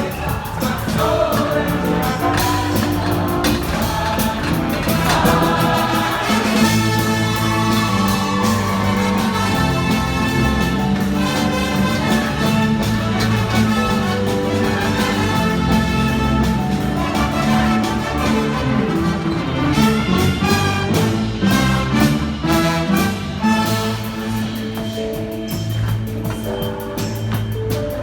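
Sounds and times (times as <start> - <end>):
brass ensemble chords: 0.0 - 26.1.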